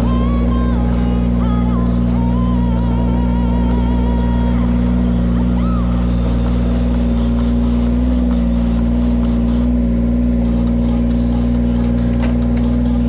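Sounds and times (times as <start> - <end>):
wood splitter engine running: 0.0 - 13.0.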